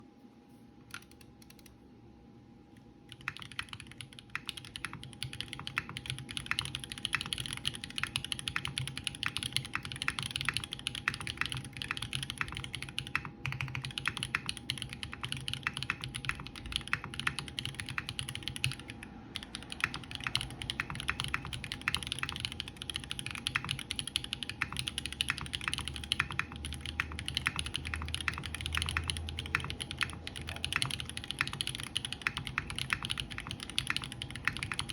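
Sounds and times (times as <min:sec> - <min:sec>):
mechanical keyboard typing: 0:00.9 - 0:01.7, 0:03.1 - 0:34.9.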